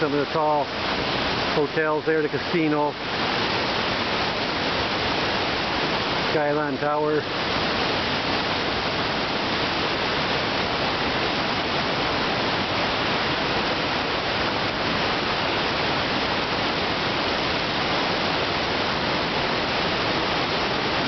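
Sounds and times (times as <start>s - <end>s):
river rapids roaring: 0.0s - 21.0s.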